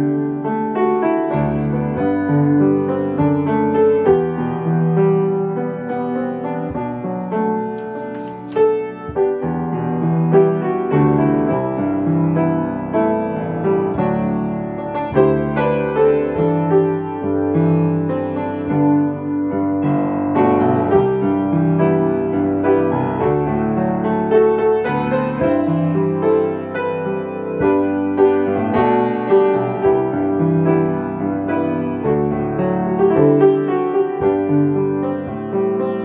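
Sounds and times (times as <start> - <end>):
solo grand piano piece: 0.0 - 36.0.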